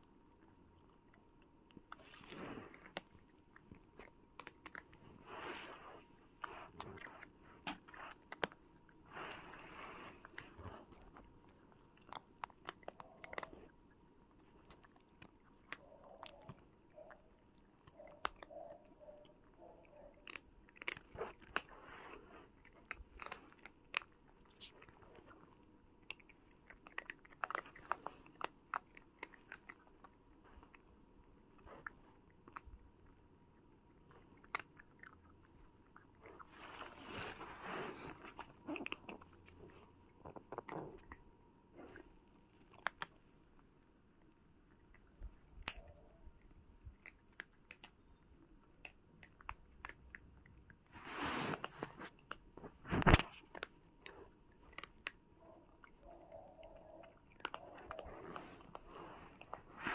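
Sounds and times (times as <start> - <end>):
cats crunching dry kibble: 0.0 - 59.9.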